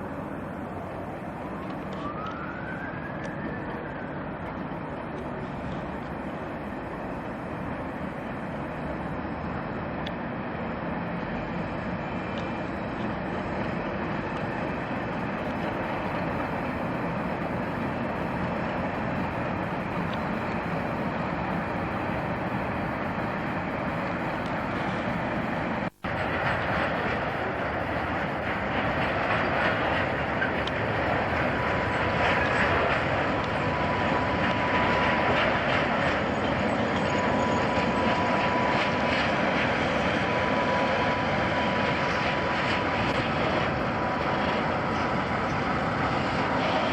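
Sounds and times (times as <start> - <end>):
thin high whine: 0.0 - 3.1, 11.8 - 46.9
train running past: 0.0 - 46.9.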